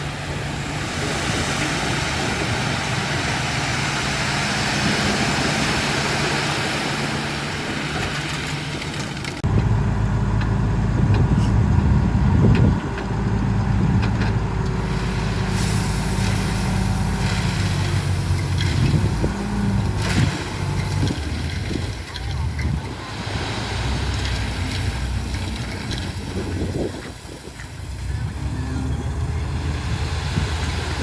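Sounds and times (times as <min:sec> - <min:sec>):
heavy diesel engine under load: 0:00.0 - 0:31.0.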